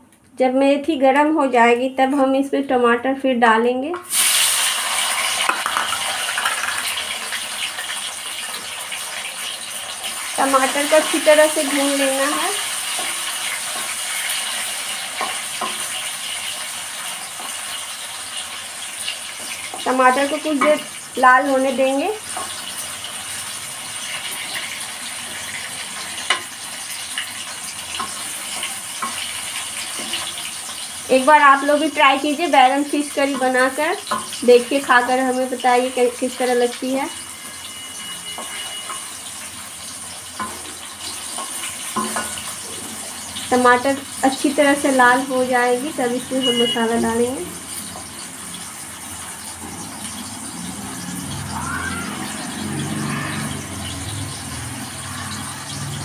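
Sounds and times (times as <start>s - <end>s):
tomatoes sizzling in hot oil: 4.0s - 56.0s.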